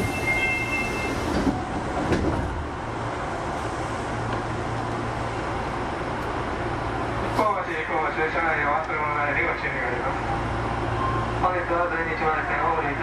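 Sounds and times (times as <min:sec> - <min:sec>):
train wheels rumbling on rail: 0:00.0 - 0:11.3.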